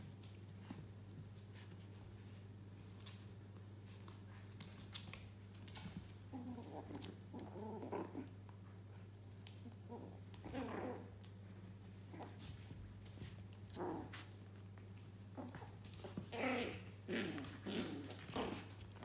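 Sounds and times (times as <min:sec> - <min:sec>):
puppies growling softly: 0:00.0 - 0:19.0
puppies scuffling: 0:00.0 - 0:19.0.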